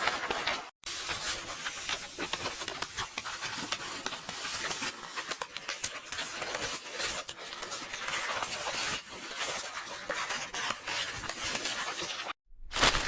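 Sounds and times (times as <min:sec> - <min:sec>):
book pages rustling and turning: 0:00.0 - 0:13.0.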